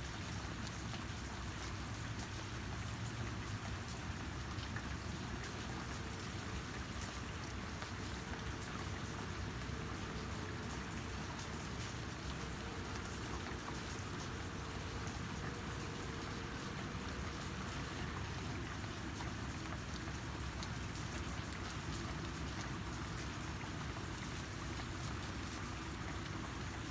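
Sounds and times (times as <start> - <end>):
steady rainfall: 0.0 - 26.9.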